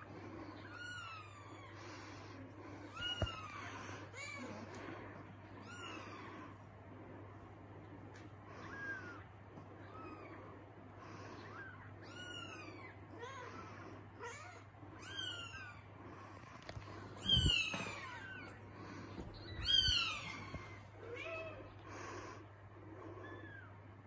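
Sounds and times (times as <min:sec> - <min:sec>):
kittens mewing: 0:00.0 - 0:06.7, 0:08.2 - 0:24.0.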